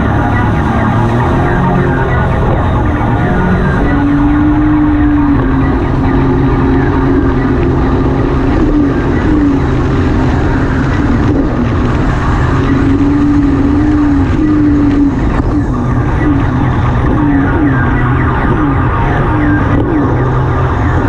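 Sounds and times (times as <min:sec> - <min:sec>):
watercraft engine droning: 0:00.0 - 0:21.0
wind and water rushing: 0:00.0 - 0:21.0.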